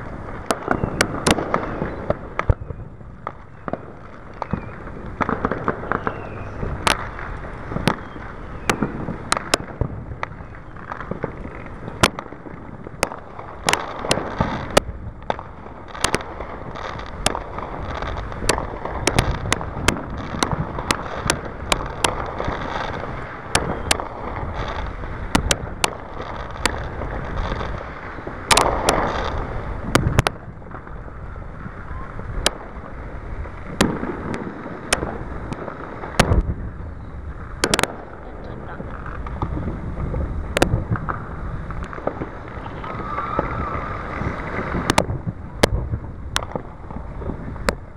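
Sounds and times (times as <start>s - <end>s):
background rumble: 0.0s - 47.9s
fireworks bangs: 0.0s - 47.9s.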